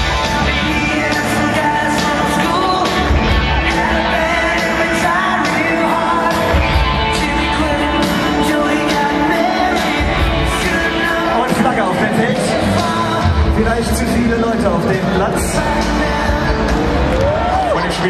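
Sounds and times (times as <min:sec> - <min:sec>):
rock song over loudspeakers: 0:00.0 - 0:18.0.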